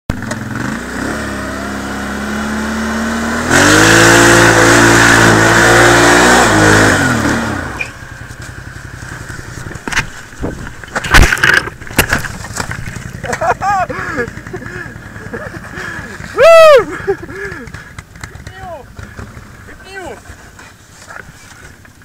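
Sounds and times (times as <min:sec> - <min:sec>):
atv engine revving: 0:00.1 - 0:20.6.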